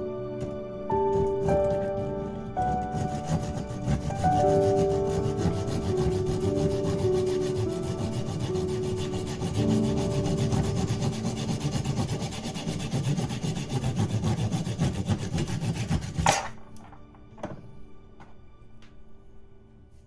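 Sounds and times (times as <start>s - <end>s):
saw rasping through wood: 0.0s - 16.6s.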